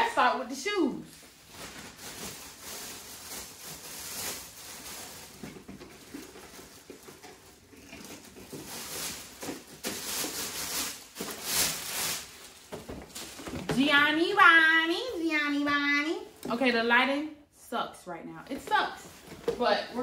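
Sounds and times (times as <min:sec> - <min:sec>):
shopping bags rustling: 0:00.0 - 0:16.8, 0:18.5 - 0:20.0.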